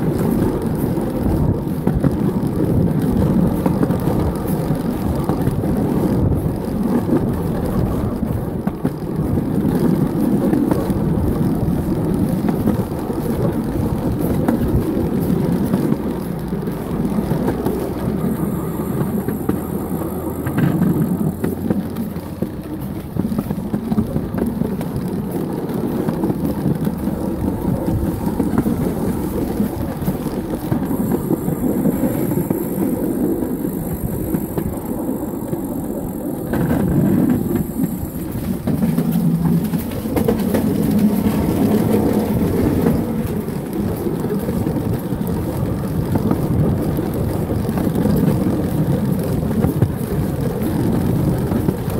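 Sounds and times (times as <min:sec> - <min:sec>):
wheels rumbling on rail track: 0:00.0 - 0:51.9.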